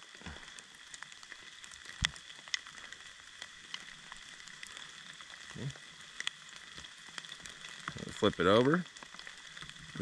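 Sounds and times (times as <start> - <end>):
light rain pattering: 0.0 - 10.0.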